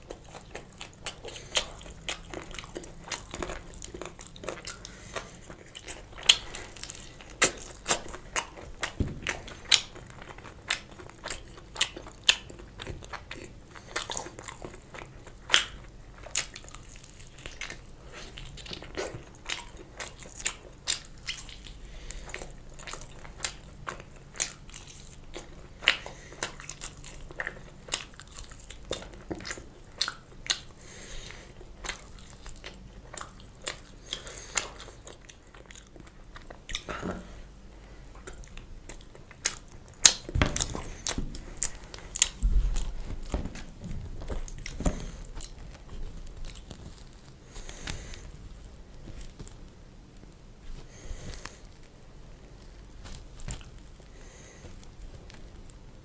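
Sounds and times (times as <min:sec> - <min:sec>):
biting and chewing chicken: 0:00.0 - 0:56.0.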